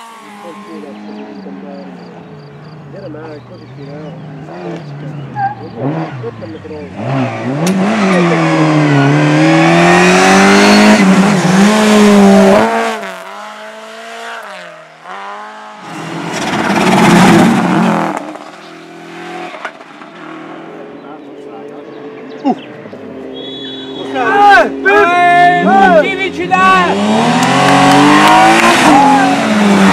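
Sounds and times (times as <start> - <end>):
rally car engine revving: 0.0 - 29.9.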